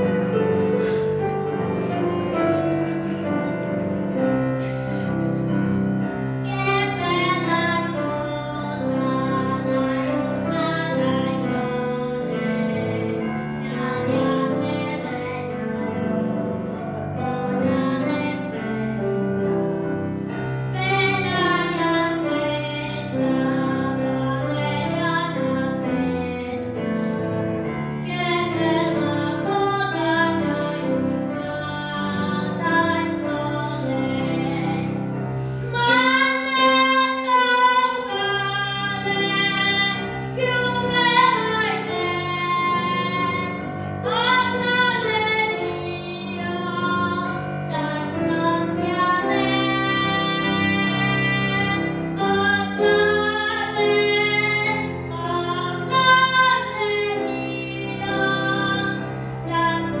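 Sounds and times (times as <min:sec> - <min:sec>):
grand piano: 0:00.0 - 1:00.0
boy singing: 0:06.4 - 0:19.1, 0:20.7 - 0:35.0, 0:35.7 - 1:00.0.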